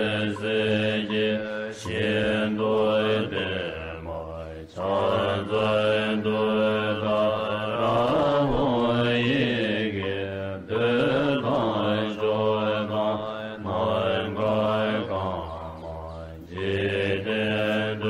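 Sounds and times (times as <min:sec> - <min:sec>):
person chanting: 0:00.0 - 0:18.0.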